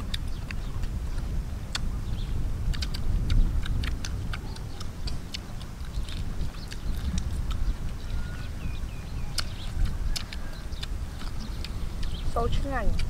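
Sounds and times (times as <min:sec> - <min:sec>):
crunchy chewing: 0:00.0 - 0:13.0
wind rumble on microphone: 0:00.0 - 0:13.0.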